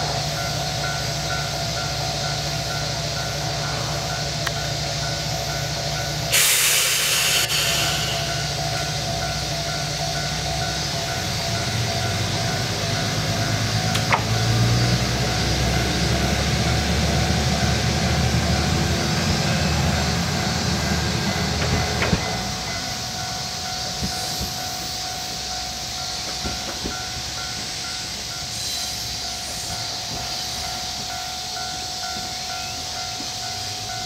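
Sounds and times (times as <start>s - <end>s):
diesel railcar engine rumble: 0.0s - 34.0s.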